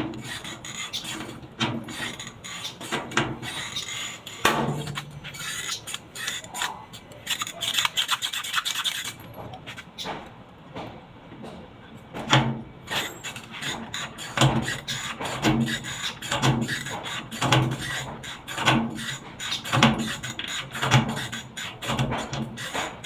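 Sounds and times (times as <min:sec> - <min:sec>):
rasping strokes on metal: 0:00.1 - 0:09.2, 0:12.9 - 0:23.0.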